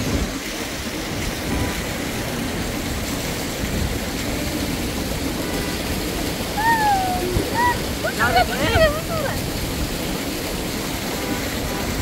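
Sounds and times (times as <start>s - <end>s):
water pouring and flowing: 0.0s - 12.0s.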